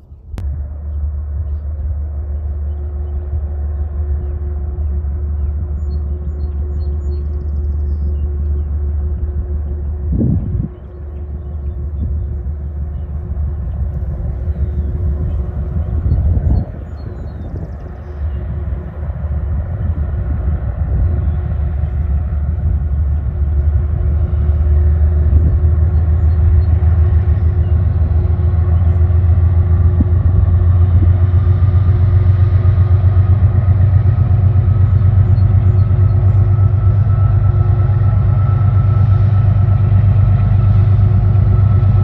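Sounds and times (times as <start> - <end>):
diesel train engine rumbling: 0.0 - 42.0.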